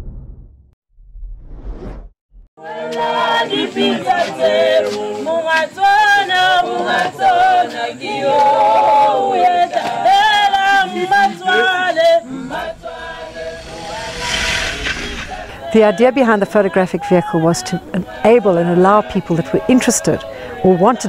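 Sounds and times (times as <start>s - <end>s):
male choir singing a cappella: 2.6s - 21.0s.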